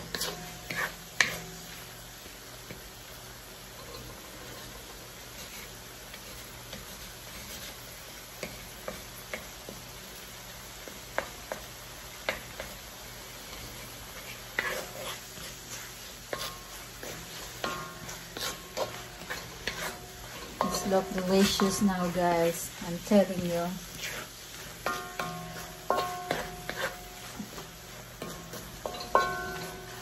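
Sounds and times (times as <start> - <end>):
wooden spatula scraping a pan: 0.0 - 2.0, 3.7 - 9.9, 10.8 - 30.0
vegetables sizzling in a wok: 0.0 - 30.0.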